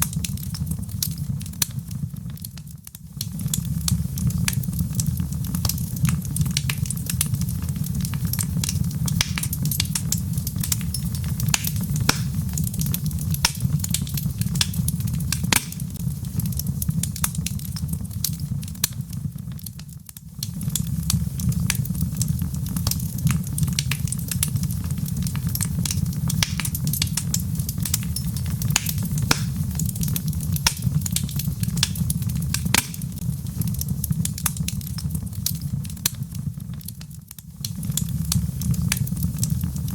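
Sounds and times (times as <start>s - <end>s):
fire pops and snaps: 0.0s - 39.9s
low rumble of flames: 0.0s - 39.9s.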